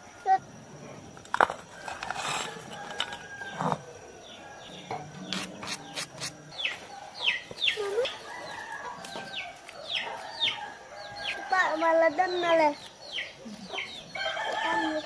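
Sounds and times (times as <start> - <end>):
chickens peeping: 2.0 - 15.0.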